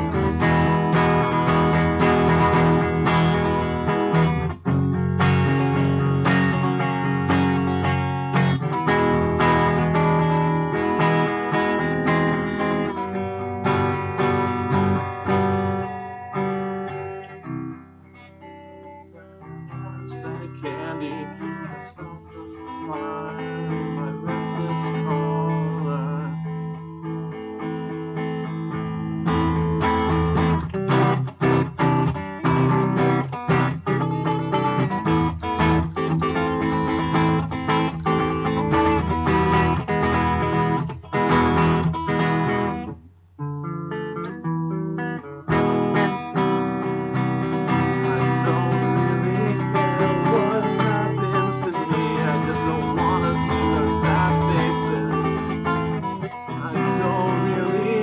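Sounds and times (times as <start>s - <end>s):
guitar strumming chords: 0.0s - 58.0s.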